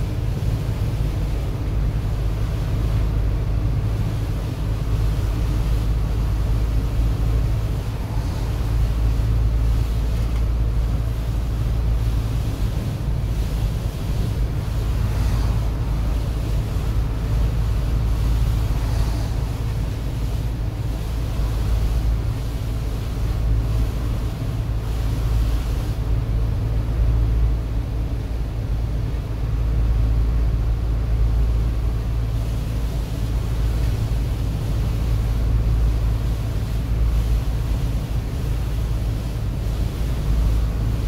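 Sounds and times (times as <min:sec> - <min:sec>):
engine and road rumble: 0:00.0 - 0:41.0
tyres hissing on wet road: 0:00.0 - 0:41.0.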